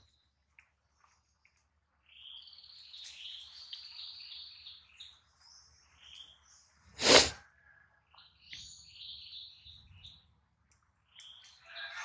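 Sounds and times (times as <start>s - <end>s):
bird chirping: 0.0s - 7.3s, 8.1s - 12.0s.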